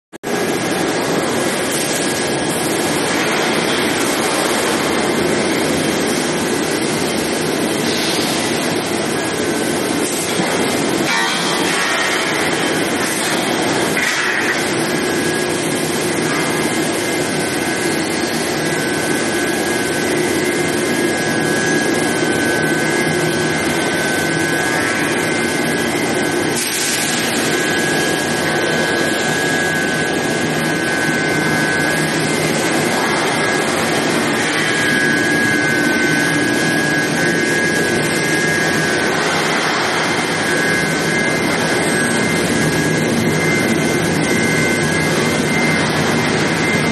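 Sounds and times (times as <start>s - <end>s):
high whine: 0.2s - 46.9s
machinery running: 0.2s - 46.9s.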